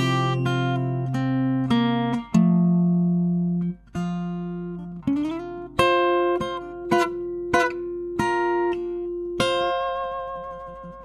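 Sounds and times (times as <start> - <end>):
fingerstyle acoustic guitar: 0.0 - 11.0.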